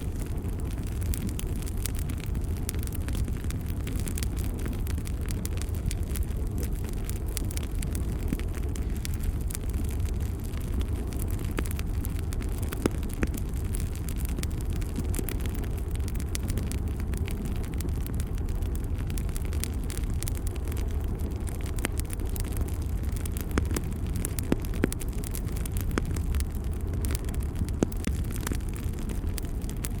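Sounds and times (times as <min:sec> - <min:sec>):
fire rumbling in fireplace: 0:00.0 - 0:30.0
wood fire crackling and popping: 0:00.0 - 0:30.0.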